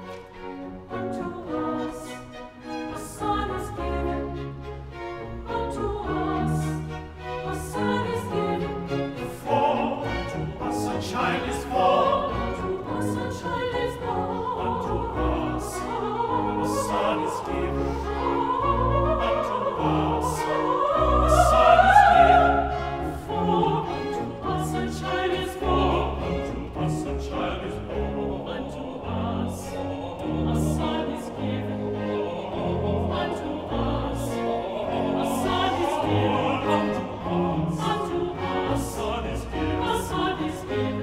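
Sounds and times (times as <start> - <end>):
orchestral accompaniment: 0.0 - 41.0.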